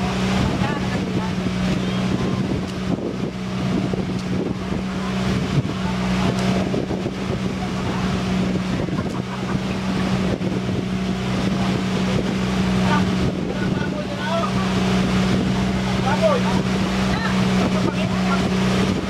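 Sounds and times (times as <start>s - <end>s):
small boat engine droning: 0.0s - 19.0s
steady rushing noise: 0.0s - 19.0s.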